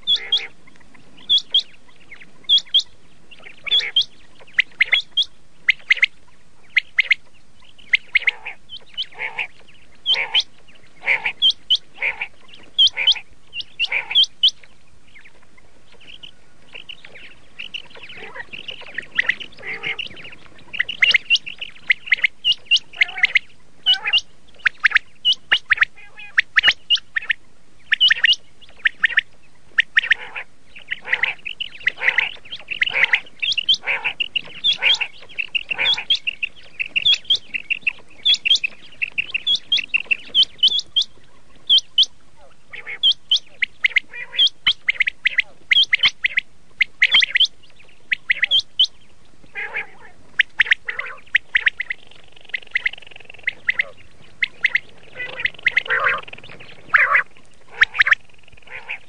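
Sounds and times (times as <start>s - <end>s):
quail calling: 0.0s - 59.0s.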